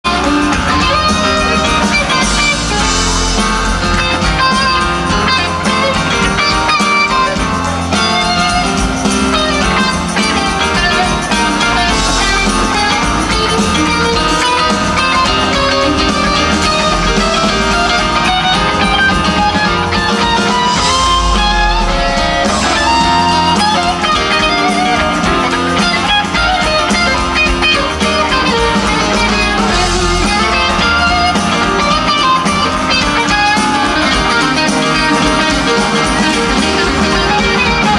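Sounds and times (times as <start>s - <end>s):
electric guitar lines: 0.0s - 37.9s
live rock band: 0.0s - 37.9s.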